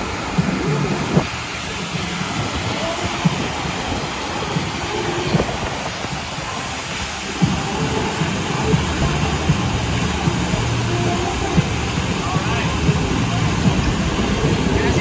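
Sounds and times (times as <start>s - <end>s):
water rushing over surface: 0.0s - 15.0s.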